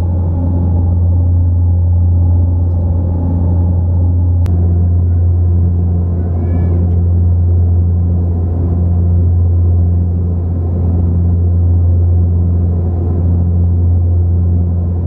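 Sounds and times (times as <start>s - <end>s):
propeller plane cabin drone: 0.0s - 15.0s.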